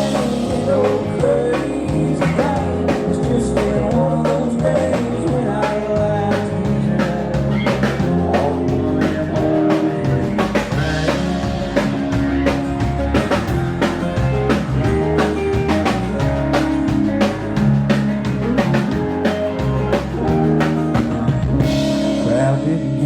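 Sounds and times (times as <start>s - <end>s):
bass guitar: 0.0s - 23.0s
drum kit beat: 0.0s - 23.0s
electric guitar: 0.0s - 23.0s.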